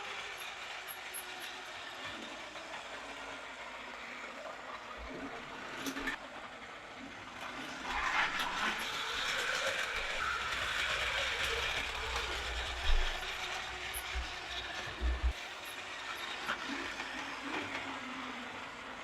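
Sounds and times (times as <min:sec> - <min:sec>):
toy train motor whirring: 0:00.0 - 0:19.0.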